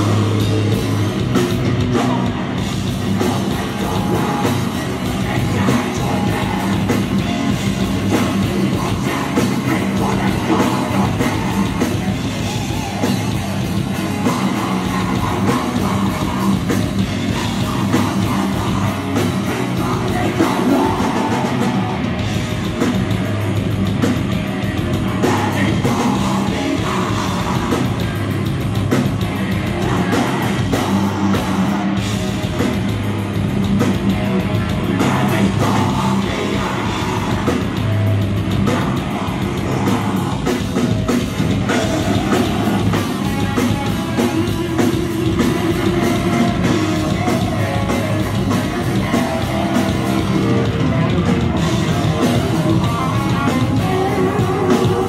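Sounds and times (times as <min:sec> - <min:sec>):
vocals into microphone: 0:00.0 - 0:22.5, 0:25.0 - 0:28.2, 0:29.5 - 0:32.5, 0:34.4 - 0:55.0
distorted electric guitars: 0:00.0 - 0:55.0
fast drumming: 0:00.0 - 0:55.0.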